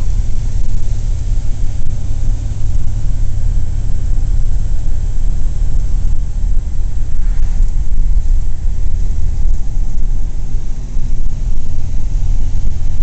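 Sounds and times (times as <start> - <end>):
car engine running: 0.0 - 13.0
road and wind noise: 0.0 - 13.0.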